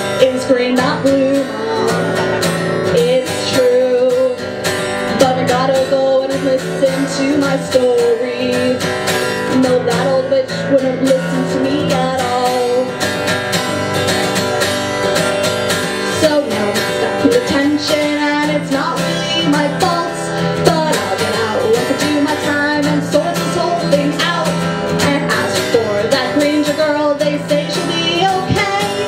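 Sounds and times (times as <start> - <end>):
woman singing: 0.0 - 13.2, 15.8 - 29.0
strummed acoustic guitar: 0.0 - 29.0.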